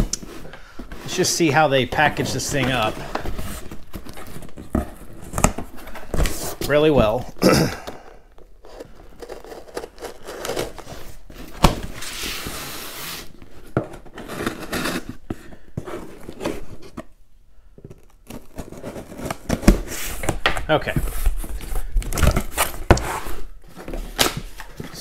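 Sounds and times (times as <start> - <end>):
cardboard flaps rustling and scraping: 0.0 - 7.3, 8.6 - 17.2, 18.2 - 25.0.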